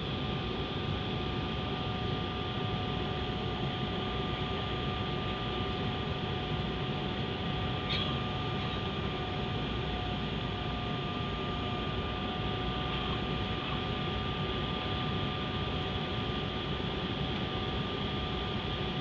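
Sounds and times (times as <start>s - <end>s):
jet engines and airflow rushing: 0.0s - 19.0s
steady whining tones: 0.0s - 19.0s.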